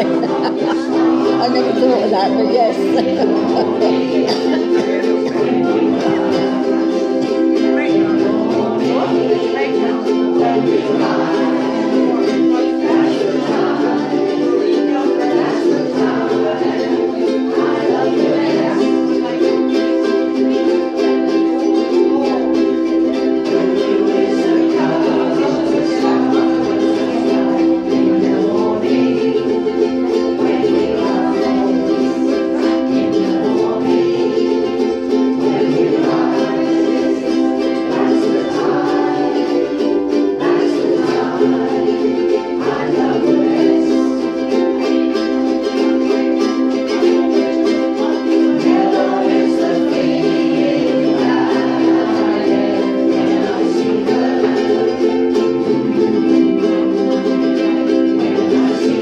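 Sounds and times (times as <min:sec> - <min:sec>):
ukuleles strumming chords: 0:00.0 - 0:59.0.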